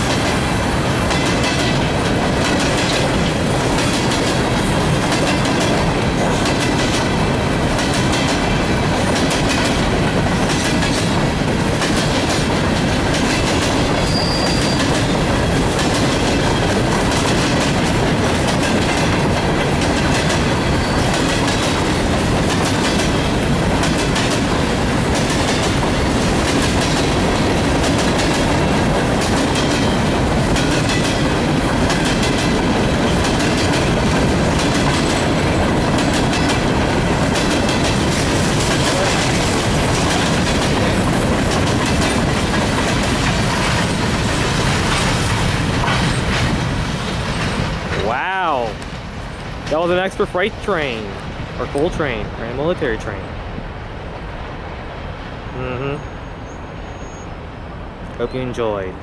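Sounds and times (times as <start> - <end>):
wheels clacking over rail joints: 0.0 - 52.0
train wheels rumbling on rail: 0.0 - 55.4.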